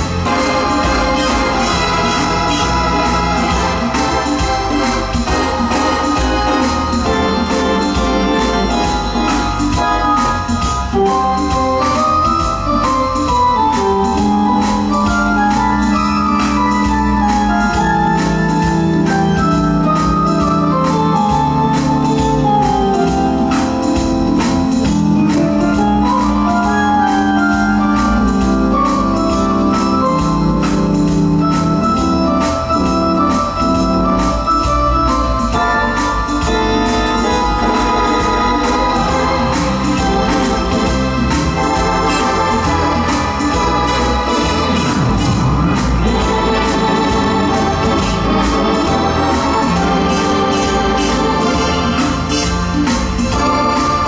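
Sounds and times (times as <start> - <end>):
organ playing a melody: 0.0 - 54.0
steady percussion beat: 0.0 - 54.0.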